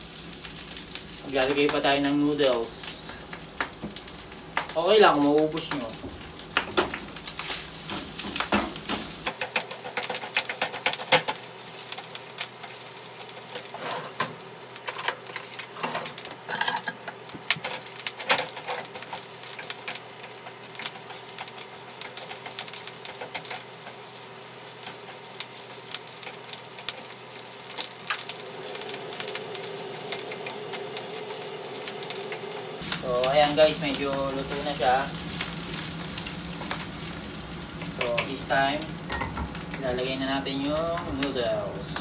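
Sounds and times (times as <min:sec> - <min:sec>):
rice and egg sizzling in oil: 0:00.0 - 0:42.0.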